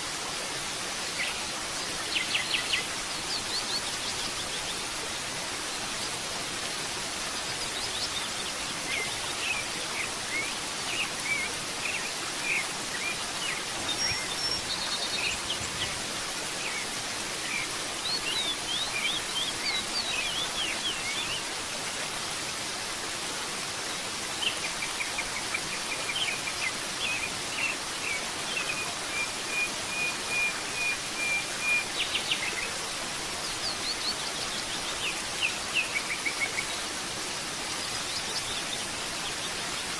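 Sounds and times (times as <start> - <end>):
waterfall rushing: 0.0 - 39.9
songbirds chirping: 0.1 - 22.3, 23.5 - 39.9.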